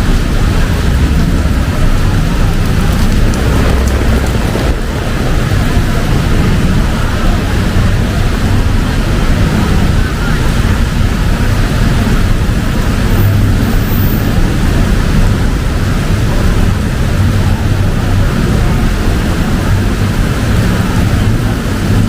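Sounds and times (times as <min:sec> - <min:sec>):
deep rumble of city traffic: 0:00.0 - 0:22.0
heavy rain pouring: 0:00.0 - 0:22.0
wind: 0:00.0 - 0:22.0.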